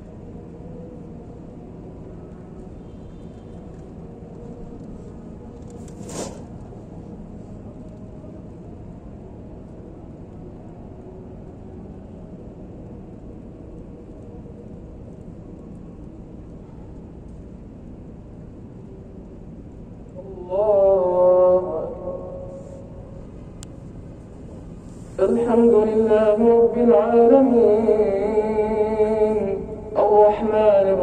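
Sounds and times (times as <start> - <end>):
faint hum: 0.0 - 31.0.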